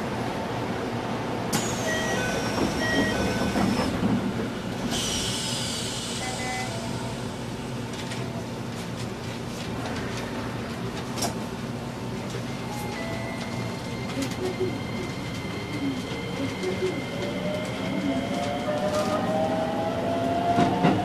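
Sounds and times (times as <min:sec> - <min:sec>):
train interior hum: 0:00.0 - 0:21.0.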